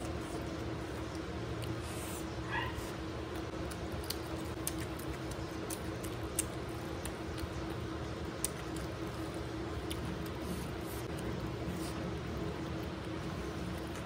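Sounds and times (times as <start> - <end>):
fingers squishing food: 0.0 - 14.0
steady low hum: 0.0 - 14.0.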